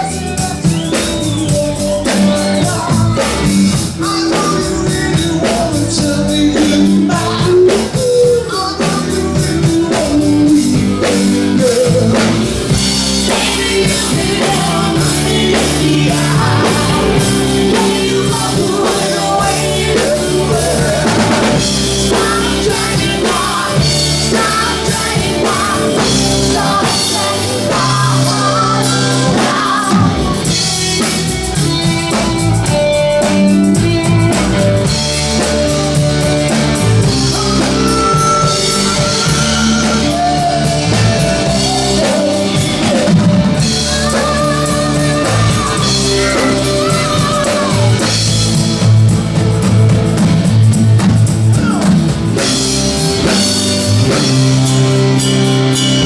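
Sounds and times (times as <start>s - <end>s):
person singing: 0.0s - 50.3s
drum kit: 0.0s - 56.0s
guitars: 0.0s - 56.0s
rock band playing live: 0.0s - 56.0s.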